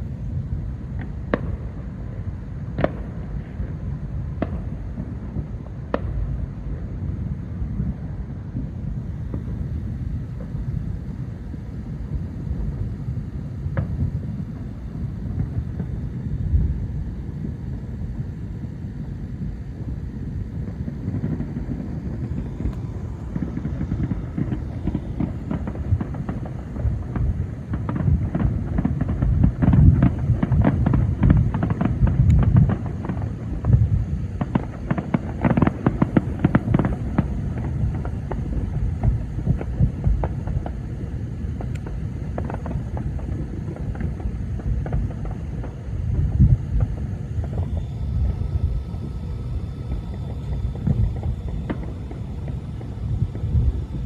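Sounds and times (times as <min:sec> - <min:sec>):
distant fireworks rumble: 0:00.0 - 0:54.0
fireworks cracks and pops: 0:00.8 - 0:06.9, 0:07.7 - 0:11.2, 0:13.6 - 0:18.3, 0:20.6 - 0:54.0.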